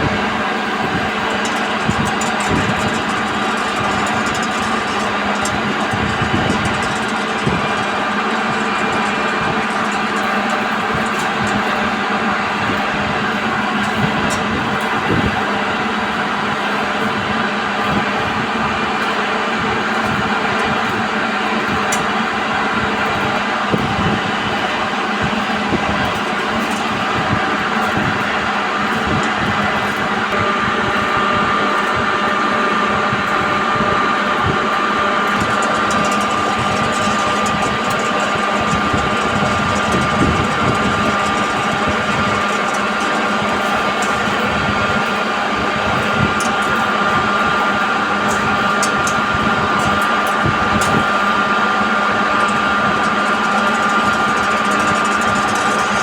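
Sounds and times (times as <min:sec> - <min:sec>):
train mechanical hum: 0:00.0 - 0:56.0.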